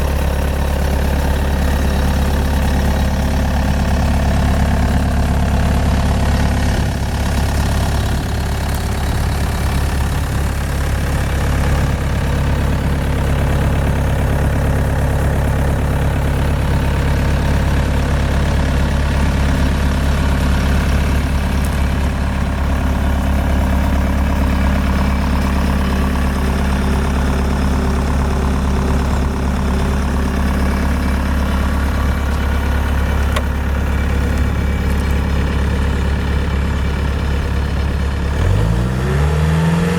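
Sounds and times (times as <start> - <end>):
diesel engine idling: 0.0 - 39.8.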